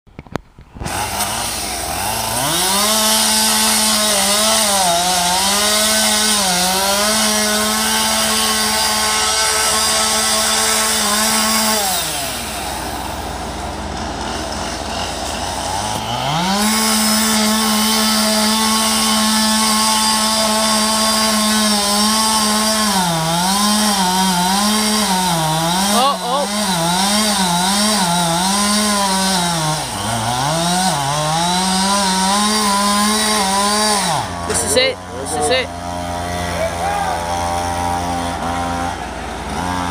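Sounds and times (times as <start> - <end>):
chainsaw cutting wood: 0.2 - 39.9.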